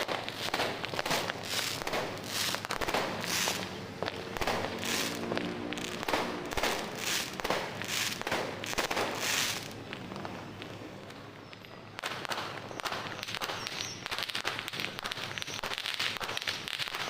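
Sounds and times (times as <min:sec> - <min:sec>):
hissing firework bursts: 0:00.0 - 0:10.9, 0:12.0 - 0:17.0
firecrackers popping and banging: 0:00.0 - 0:17.0.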